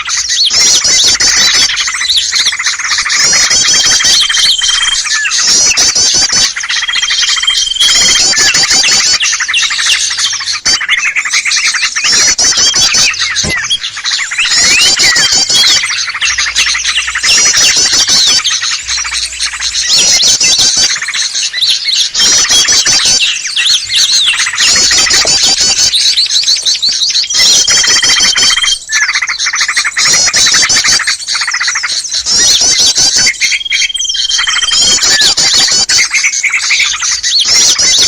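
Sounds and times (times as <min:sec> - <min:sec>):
songbirds scolding calls: 0:00.0 - 0:38.0.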